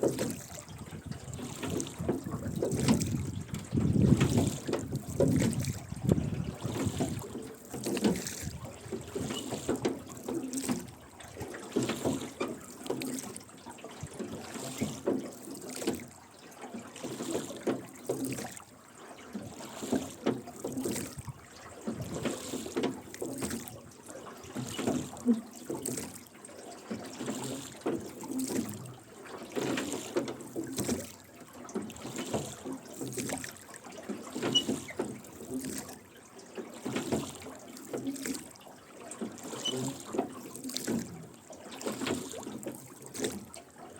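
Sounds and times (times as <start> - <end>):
oars splashing: 0.0 - 43.9
water trickling off oars: 0.0 - 43.9.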